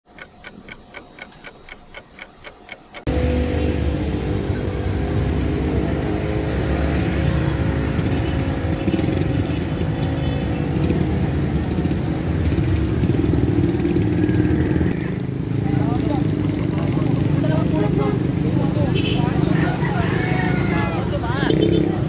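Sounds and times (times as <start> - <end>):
vehicle engines running: 0.1 - 22.0.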